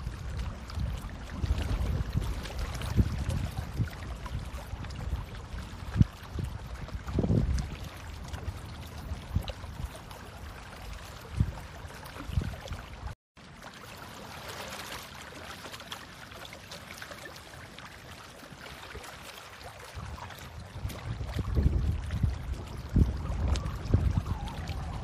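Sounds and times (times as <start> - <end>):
trickling water: 0.0 - 25.0.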